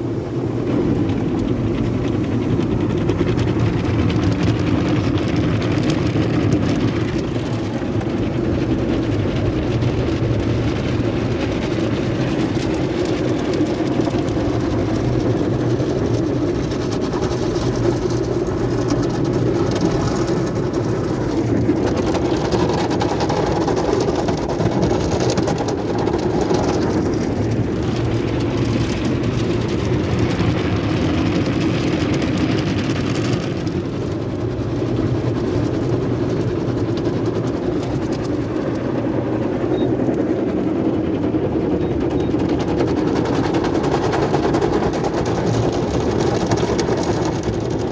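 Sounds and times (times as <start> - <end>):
car wash machinery and water: 0.0 - 47.9.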